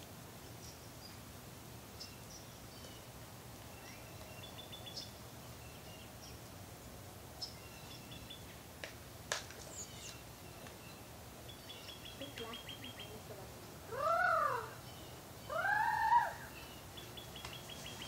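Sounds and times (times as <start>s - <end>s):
low outdoor hum: 0.0s - 18.0s
songbird chirps and trills: 0.0s - 18.0s.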